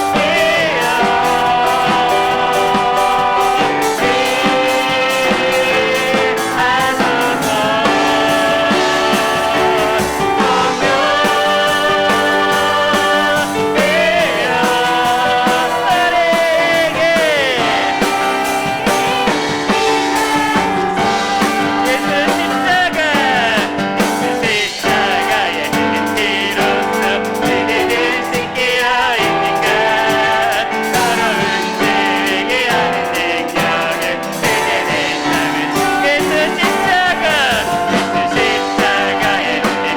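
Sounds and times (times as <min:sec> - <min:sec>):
drums: 0:00.0 - 0:39.9
people singing: 0:00.0 - 0:39.9
piano: 0:00.0 - 0:39.9.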